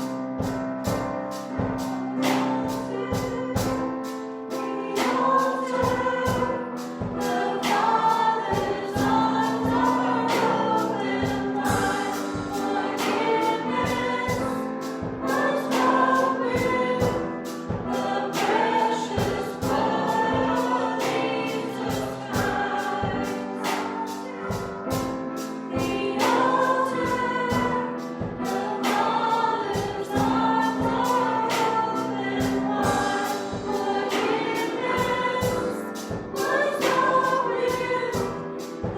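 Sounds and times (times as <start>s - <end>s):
band accompaniment with beat: 0.0s - 38.9s
choir singing worship song: 0.0s - 38.9s.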